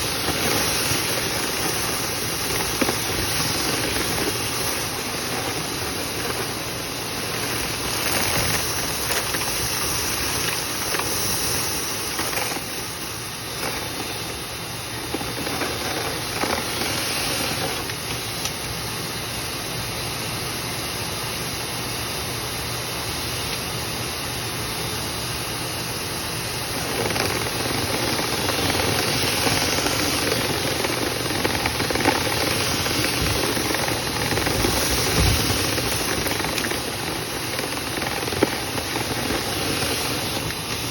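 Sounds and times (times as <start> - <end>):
debris clicking in duct: 0.0 - 18.7, 26.6 - 40.9
air rushing through duct: 0.0 - 19.5, 25.7 - 40.9
dryer vent cleaning equipment running: 0.0 - 40.9.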